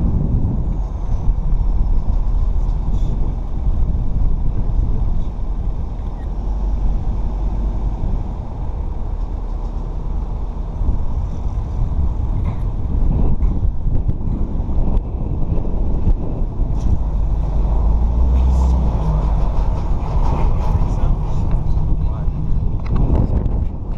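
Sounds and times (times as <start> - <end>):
car engine rumble: 0.0 - 23.9
wind buffeting microphone: 0.0 - 23.9.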